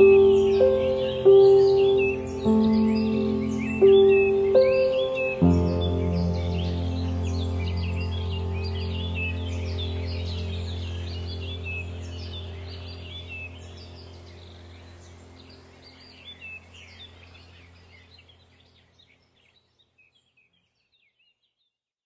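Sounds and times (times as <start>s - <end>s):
steady low hum: 0.0s - 18.8s
small birds chirping: 0.0s - 21.8s.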